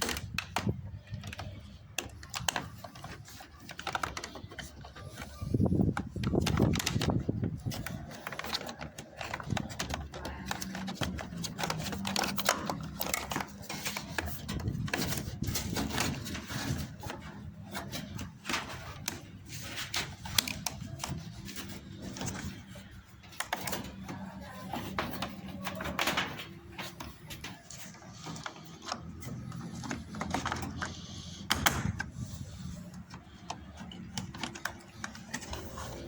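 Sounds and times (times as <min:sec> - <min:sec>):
clicks and rattles of machine parts: 0:00.0 - 0:36.0.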